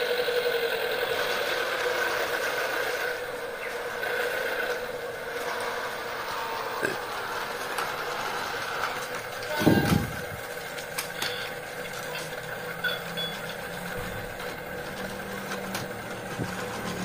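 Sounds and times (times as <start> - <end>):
toy train motors whining: 0.0 - 17.0.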